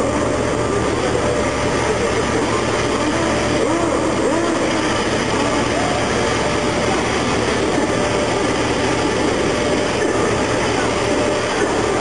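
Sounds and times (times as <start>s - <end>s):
loud machinery noise: 0.0s - 12.0s.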